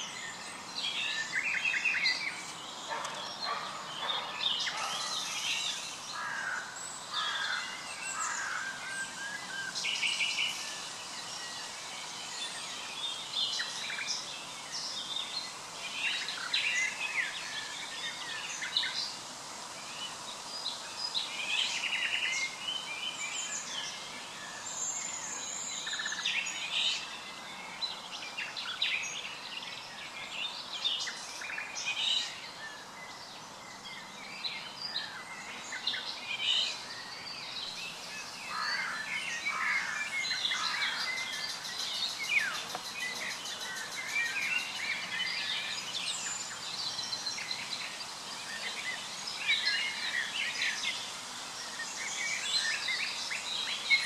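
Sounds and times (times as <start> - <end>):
outdoor background hiss: 0.0 - 54.0
songbirds chirping and trilling: 0.0 - 54.0.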